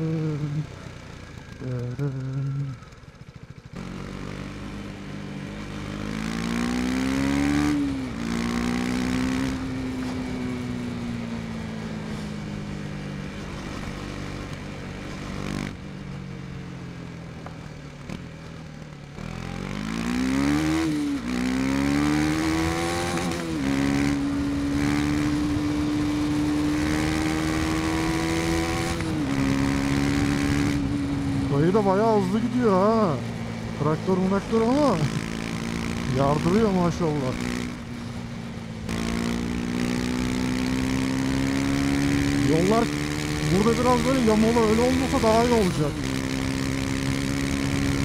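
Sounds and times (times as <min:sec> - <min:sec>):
motorcycle engine revving and shifting: 0:00.0 - 0:15.8, 0:17.4 - 0:48.0.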